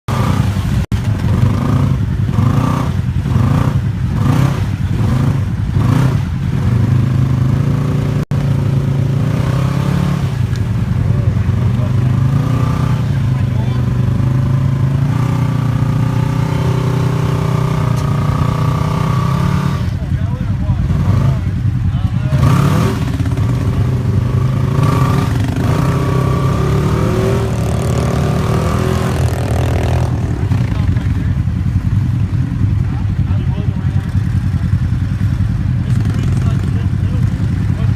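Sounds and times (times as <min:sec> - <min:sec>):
off-road vehicle engine revving: 0:00.1 - 0:37.9.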